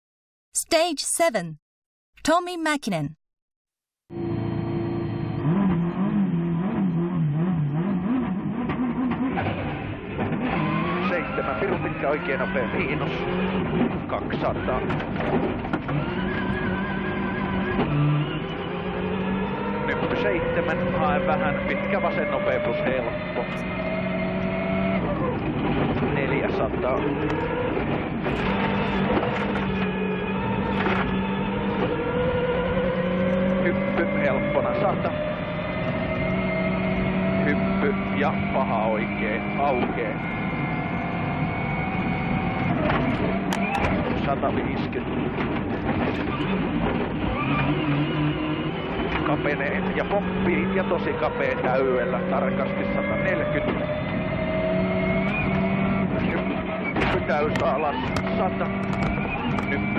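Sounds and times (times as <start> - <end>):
car engine revving: 4.1 - 59.9.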